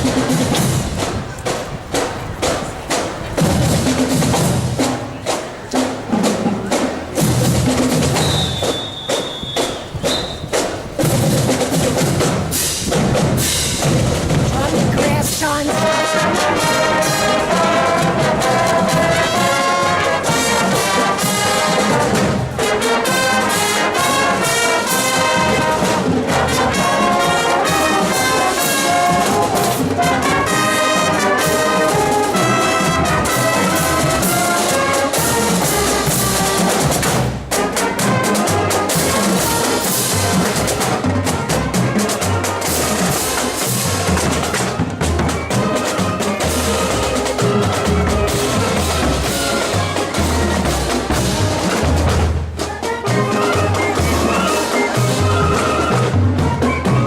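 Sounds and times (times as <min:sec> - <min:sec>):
drums: 0:00.0 - 0:57.0
marching band playing: 0:00.0 - 0:57.0
trumpets and trombones: 0:00.0 - 0:57.0.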